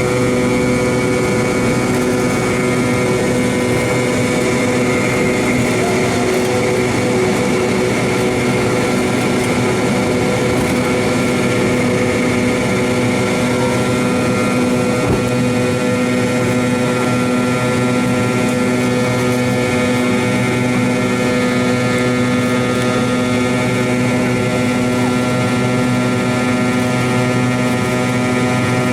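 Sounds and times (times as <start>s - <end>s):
jet engine cabin hum with whine: 0.0s - 28.9s.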